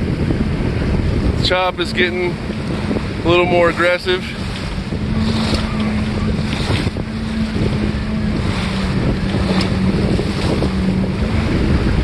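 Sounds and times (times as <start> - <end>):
steady low hum: 0.0 - 12.0
strong wind buffeting microphone: 0.0 - 12.0
water splashing against hull: 0.0 - 12.0.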